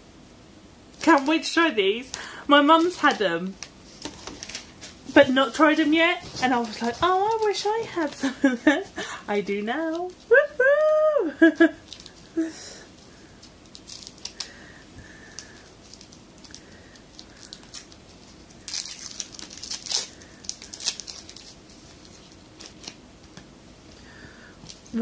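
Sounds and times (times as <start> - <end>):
gift packaging crinkling: 1.0 - 23.0.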